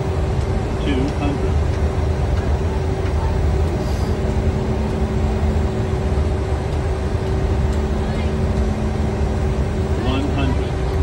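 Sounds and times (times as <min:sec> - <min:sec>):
constant hum: 0:00.0 - 0:11.0
jet cockpit low rumble: 0:00.0 - 0:11.0
second steady hum: 0:00.0 - 0:11.0.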